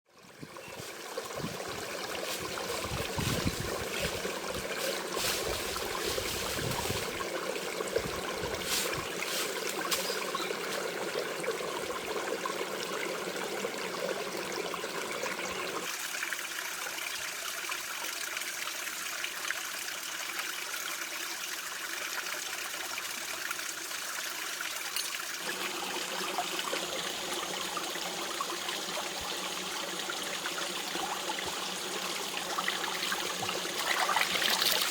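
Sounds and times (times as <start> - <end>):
stream running: 0.1 - 34.9.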